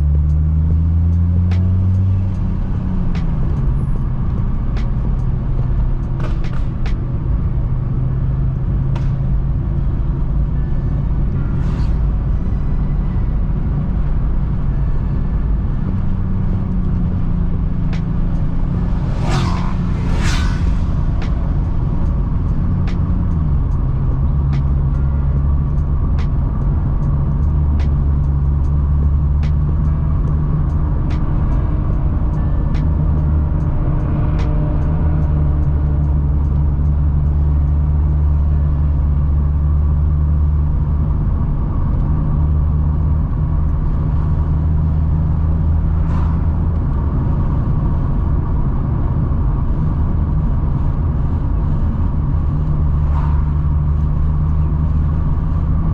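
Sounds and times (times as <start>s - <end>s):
car engine low drone: 0.0s - 55.9s.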